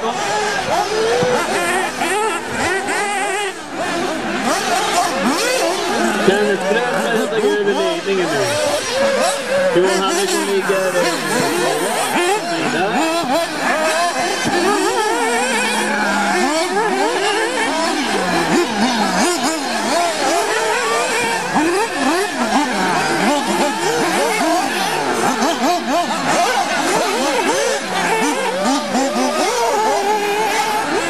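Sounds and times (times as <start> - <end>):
rc car engines revving: 0.0 - 31.0.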